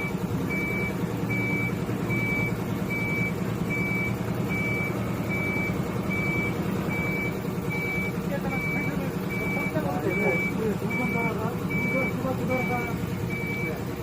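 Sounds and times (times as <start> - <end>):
high electronic warning beeps: 0.0 - 13.8
wrapping machine humming: 0.0 - 14.0.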